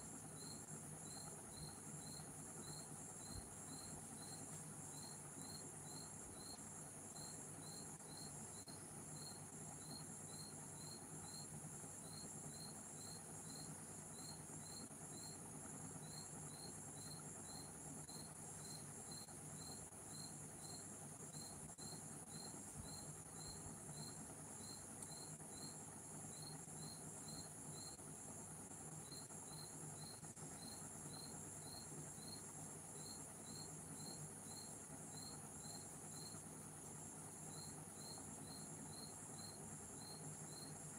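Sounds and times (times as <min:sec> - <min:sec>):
cricket chirping: 0:00.0 - 0:40.9
steady low hum: 0:00.0 - 0:40.9.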